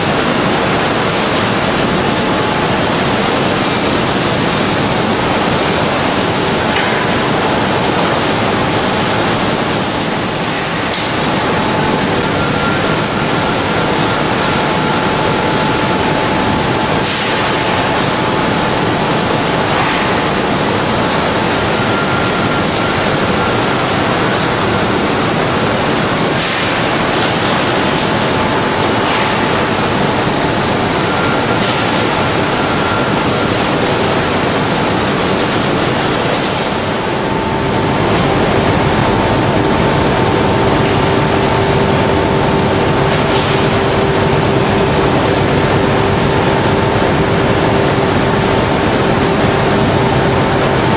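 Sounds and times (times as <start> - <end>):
faint steady whine: 0.0 - 50.9.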